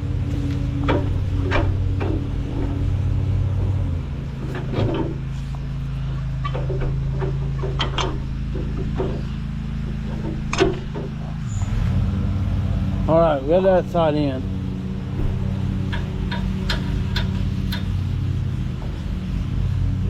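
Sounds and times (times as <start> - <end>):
metal clanks and knocks: 0.0 - 11.5, 14.7 - 20.0
tractor engine running: 0.0 - 20.0.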